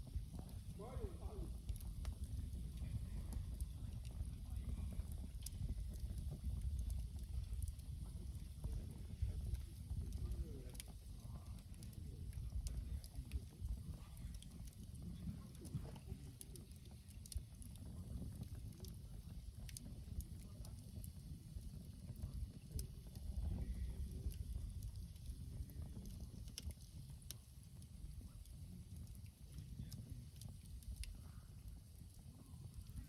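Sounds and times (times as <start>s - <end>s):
campfire crackling: 0.0s - 33.0s
fire pops and ticks: 0.0s - 33.0s
low fire rumble: 0.0s - 33.0s.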